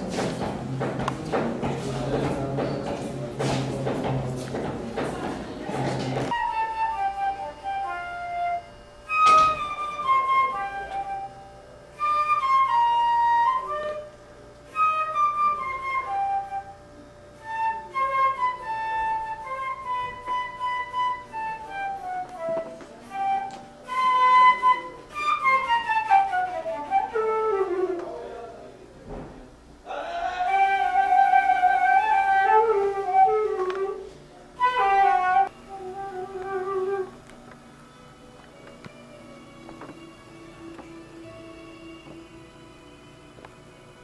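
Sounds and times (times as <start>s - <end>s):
flute-like melody: 6.3s - 28.5s, 30.2s - 44.0s.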